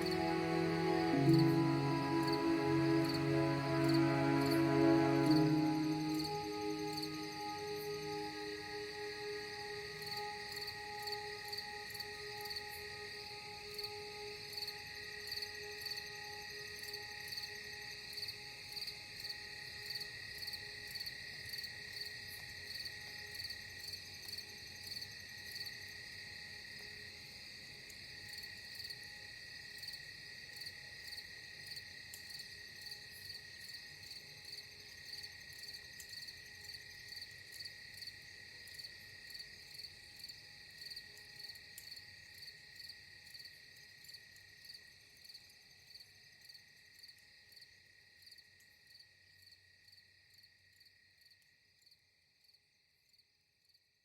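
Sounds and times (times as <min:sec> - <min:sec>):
insects chirping: 0:00.0 - 0:53.2.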